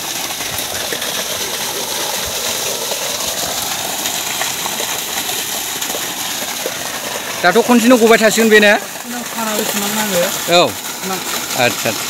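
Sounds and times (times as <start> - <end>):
water gushing from pipe: 0.0 - 12.0
water splashing down: 0.0 - 12.0.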